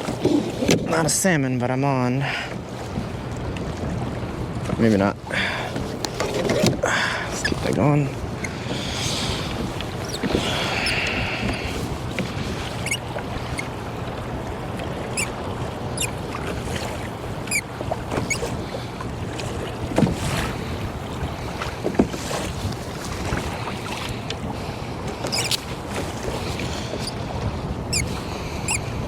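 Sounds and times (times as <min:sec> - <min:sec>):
water slapping against kayak hull: 0:02.5 - 0:29.0
wind noise on microphone: 0:05.4 - 0:29.0.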